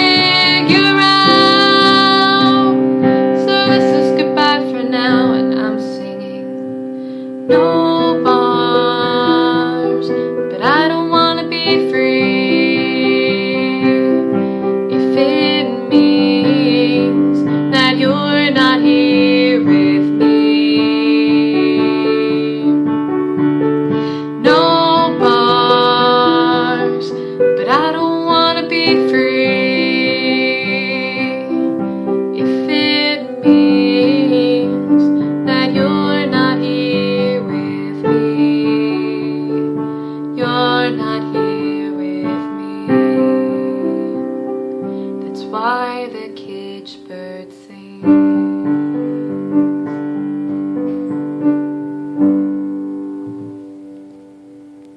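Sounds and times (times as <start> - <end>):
piano chords: 0.0 - 54.9.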